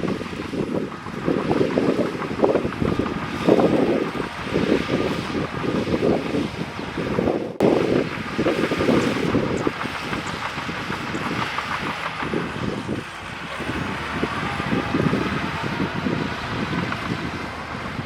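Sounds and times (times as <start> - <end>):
bulldozer diesel engine running: 0.0 - 18.0
wind on microphone: 0.0 - 18.0.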